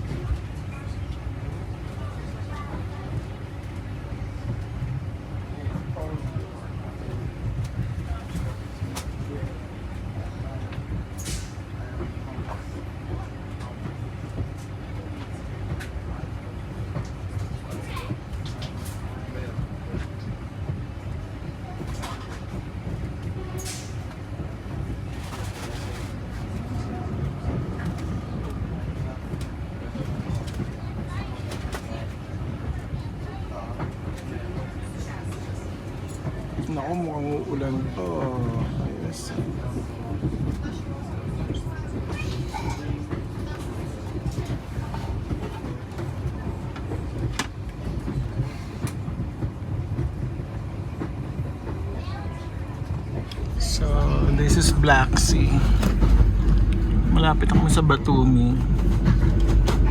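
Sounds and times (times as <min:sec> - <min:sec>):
train rumble inside carriage: 0:00.0 - 0:59.9.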